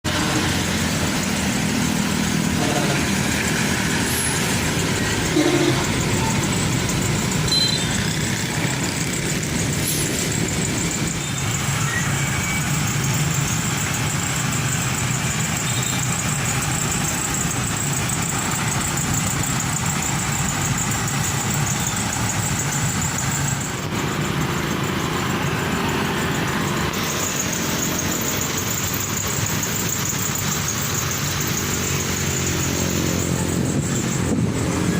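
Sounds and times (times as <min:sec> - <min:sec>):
road and traffic noise: 0:00.0 - 0:34.9
truck diesel engine running: 0:00.0 - 0:34.9.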